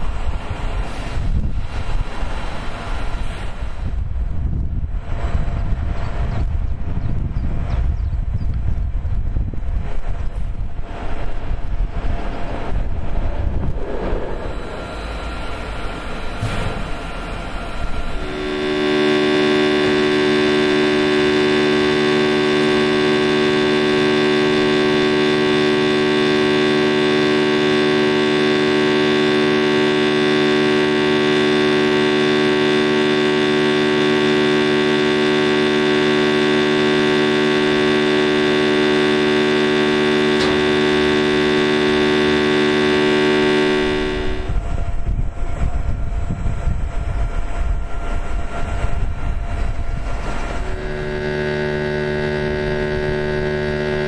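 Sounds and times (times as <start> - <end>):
motor hum with whine: 0.0 - 54.0
uneven low rumbling: 0.0 - 54.0.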